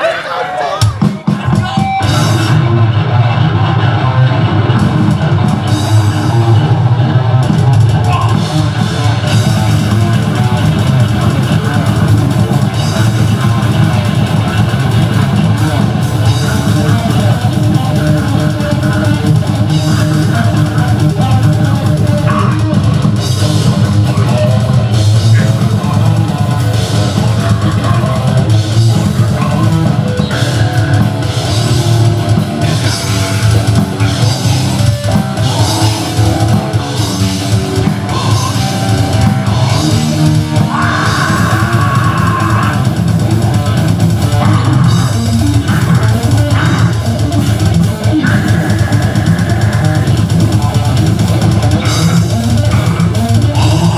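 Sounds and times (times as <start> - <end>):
bass guitar: 0.0 - 53.9
distorted electric guitar: 0.0 - 53.9
drum kit: 0.0 - 53.9.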